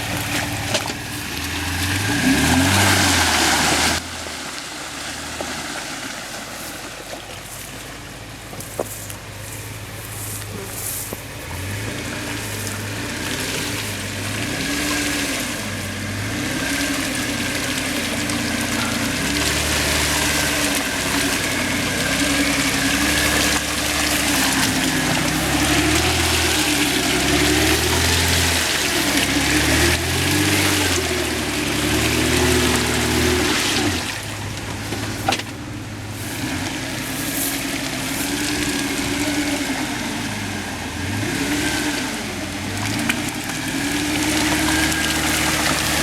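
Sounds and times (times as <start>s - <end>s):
engine revving: 0.0s - 5.8s, 8.7s - 46.0s
tyres churning mud: 0.0s - 46.0s
water and mud splashing: 0.0s - 46.0s.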